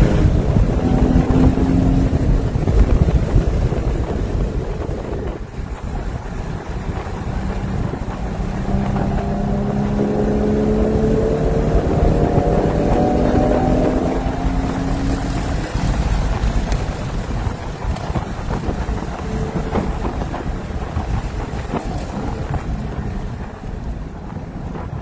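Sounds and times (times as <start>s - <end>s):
car engine accelerating: 0.0s - 25.0s
wind noise: 0.0s - 25.0s.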